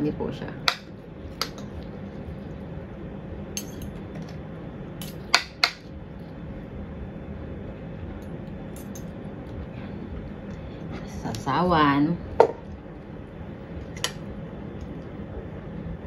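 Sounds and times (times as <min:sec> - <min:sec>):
room noise: 0:00.0 - 0:16.0.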